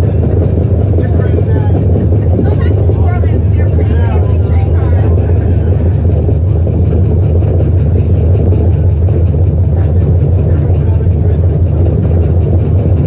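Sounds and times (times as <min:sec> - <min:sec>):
streetcar rumble and hum: 0:00.0 - 0:13.0.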